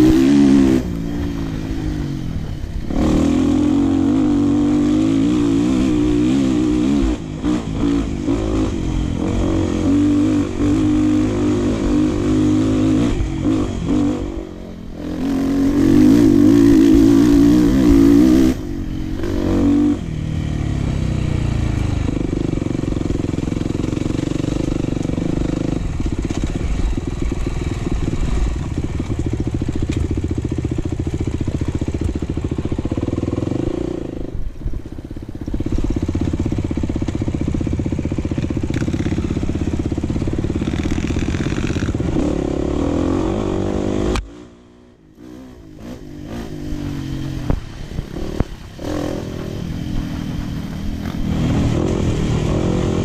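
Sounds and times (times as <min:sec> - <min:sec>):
dirt bike engine revving: 0:00.0 - 0:28.7, 0:35.6 - 0:53.0.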